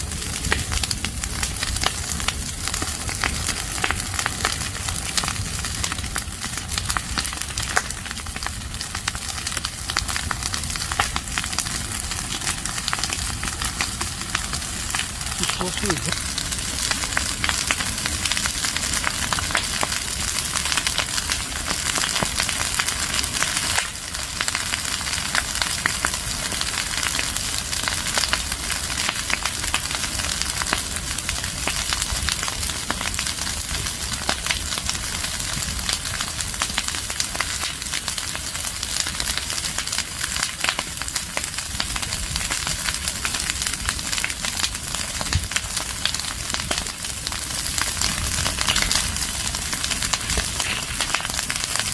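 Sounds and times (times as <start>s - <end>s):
fire crackling and popping: 0.0s - 51.9s
fire hissing: 0.0s - 51.9s.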